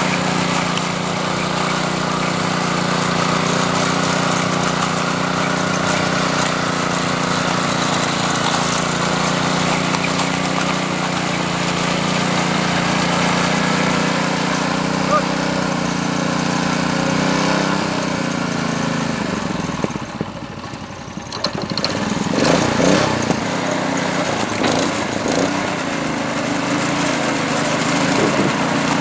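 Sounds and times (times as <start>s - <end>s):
power trowel engine droning: 0.0s - 29.0s.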